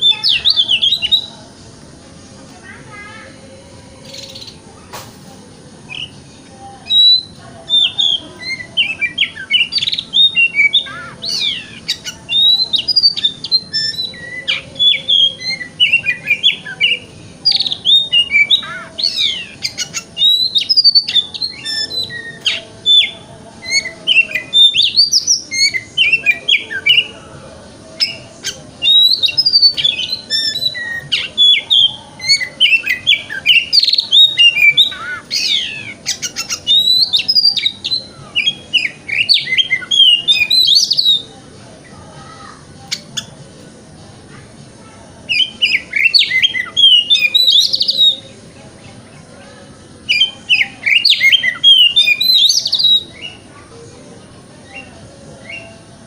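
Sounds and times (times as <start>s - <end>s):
songbird singing whistles and chirps: 0.0s - 1.6s, 2.8s - 4.7s, 5.8s - 43.4s, 45.3s - 48.5s, 49.8s - 53.5s, 54.6s - 56.0s.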